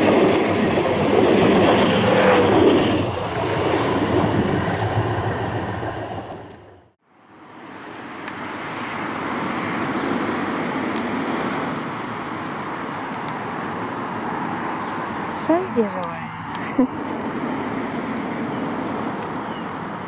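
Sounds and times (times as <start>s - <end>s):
passing train rumble: 0.0s - 7.0s, 7.6s - 20.0s.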